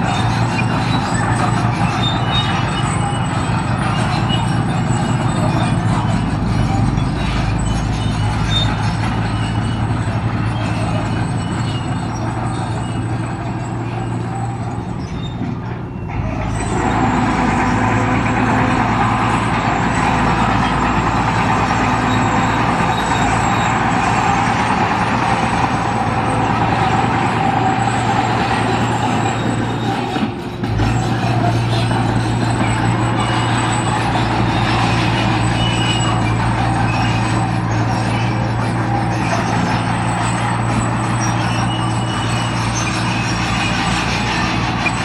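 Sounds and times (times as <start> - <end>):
heavy machinery diesel engines: 0.0 - 45.0.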